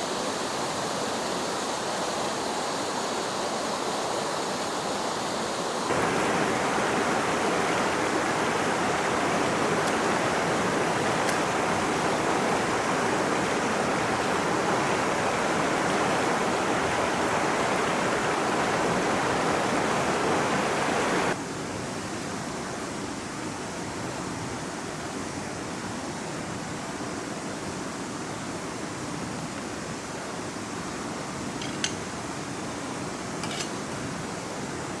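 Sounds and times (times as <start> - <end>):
river water rushing over rocks: 3.2 - 35.0.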